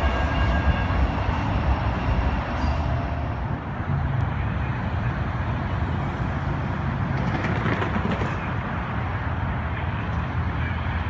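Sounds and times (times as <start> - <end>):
light rail train rumble: 0.0 - 11.0
road traffic: 0.0 - 11.0.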